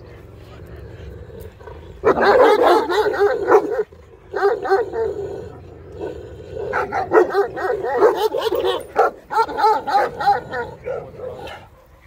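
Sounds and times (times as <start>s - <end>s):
dogs barking: 2.0s - 12.0s.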